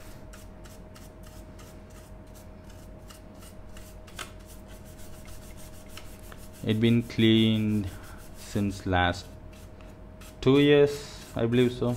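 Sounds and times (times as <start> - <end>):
brush rubbing on circuit board: 0.3 - 11.9.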